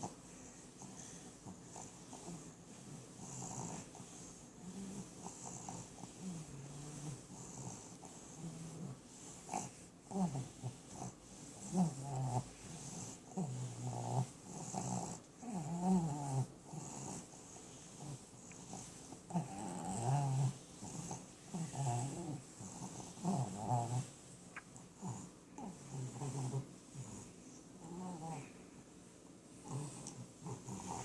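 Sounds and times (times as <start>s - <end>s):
dog snoring: 0.8s - 24.1s, 25.0s - 28.5s, 29.6s - 31.0s.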